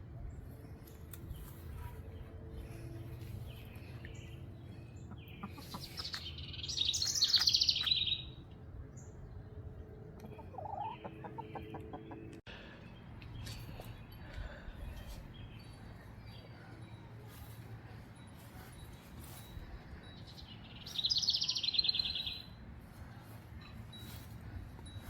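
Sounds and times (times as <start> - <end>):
birds singing: 0.1 - 25.0.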